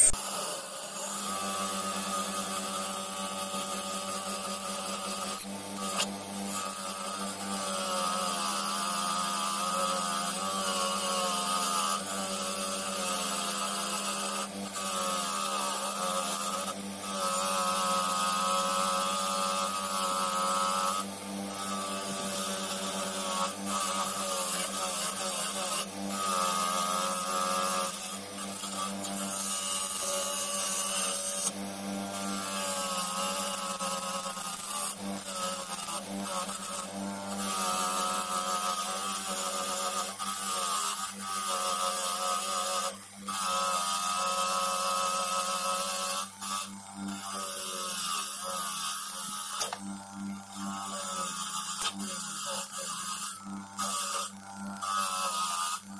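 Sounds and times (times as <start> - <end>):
bench grinder motor hum: 0.0 - 55.9.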